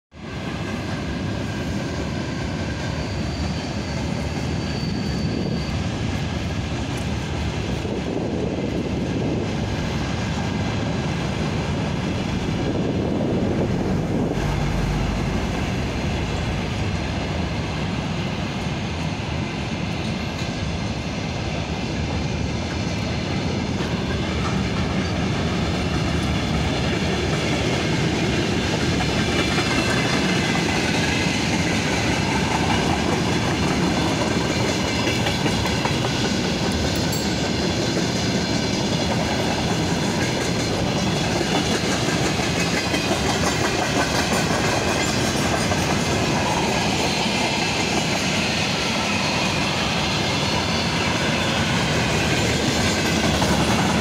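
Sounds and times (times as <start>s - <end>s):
freight train wagons on rails: 0.1s - 54.0s.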